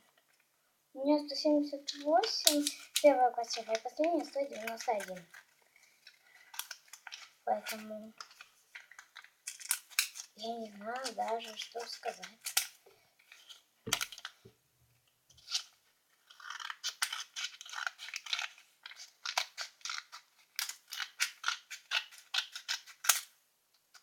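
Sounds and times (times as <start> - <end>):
scissors snipping paper: 1.9 - 5.5, 6.4 - 14.3, 15.4 - 23.3.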